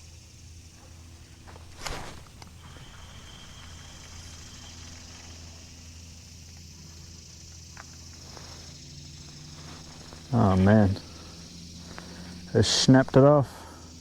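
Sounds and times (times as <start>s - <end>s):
high hiss: 0.0s - 14.0s.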